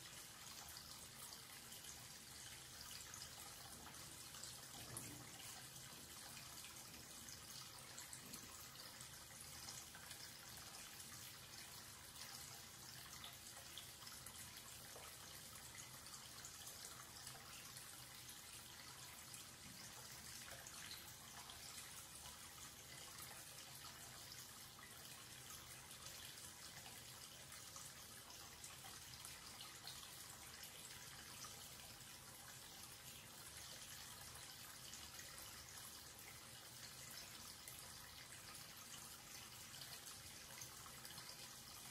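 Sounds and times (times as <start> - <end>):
tap water running into basin: 0.0 - 41.9.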